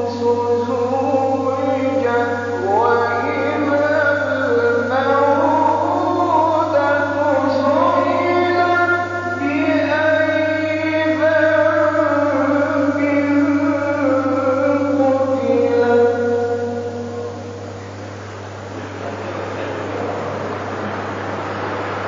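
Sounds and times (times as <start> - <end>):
man chanting melodically: 0.0 - 18.0
steady low hum: 0.0 - 22.0.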